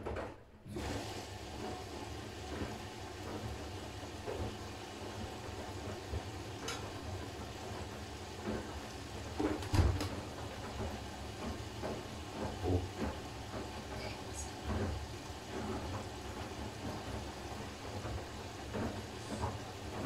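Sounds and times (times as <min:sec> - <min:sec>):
washing machine drum humming: 0:00.0 - 0:20.0
laundry knocking and swishing: 0:01.6 - 0:20.0.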